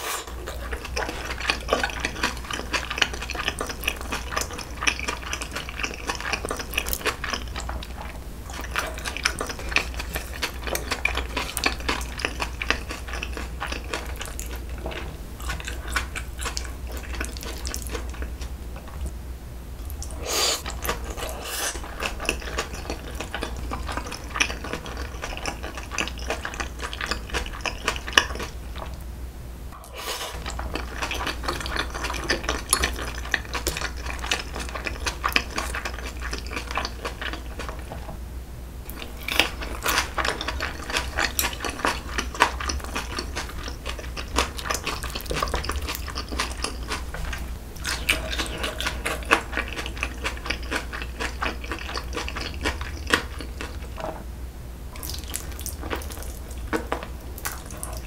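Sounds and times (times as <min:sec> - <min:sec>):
wet smacking and chewing: 0:00.4 - 0:19.1, 0:19.8 - 0:29.0, 0:30.3 - 0:38.1, 0:38.9 - 0:54.0, 0:54.9 - 0:58.0.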